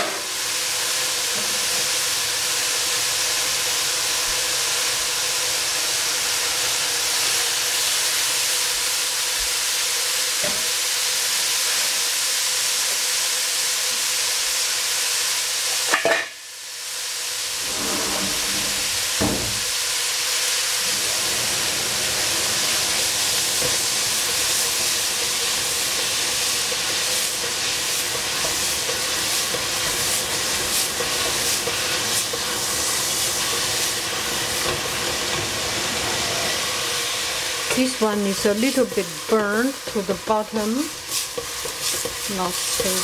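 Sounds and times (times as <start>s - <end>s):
food sizzling in a pan: 0.0s - 43.0s.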